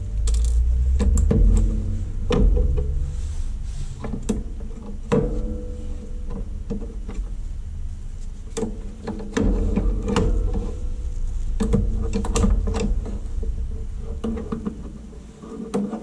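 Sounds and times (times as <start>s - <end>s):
faint steady hum: 0.0s - 16.0s
low handling rumble: 0.0s - 16.0s.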